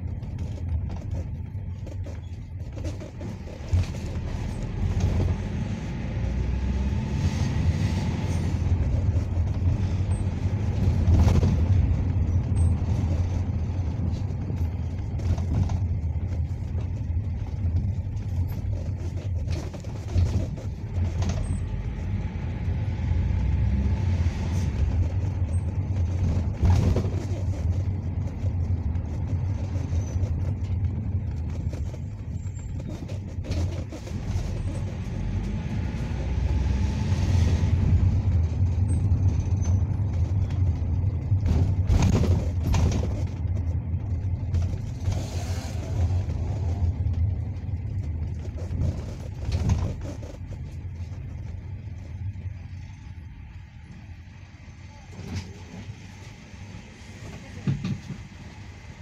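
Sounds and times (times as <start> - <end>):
bus body knocks and rattles: 0.0 - 6.1, 7.0 - 22.6, 24.4 - 36.6, 37.6 - 52.9, 57.2 - 58.7
bus engine and road rumble: 0.0 - 59.0.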